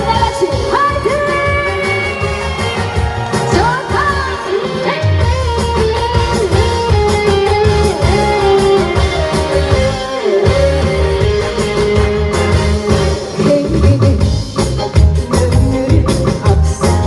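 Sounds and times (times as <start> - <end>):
guitar melody: 0.0 - 17.0
pulsing bass beat: 0.0 - 17.0.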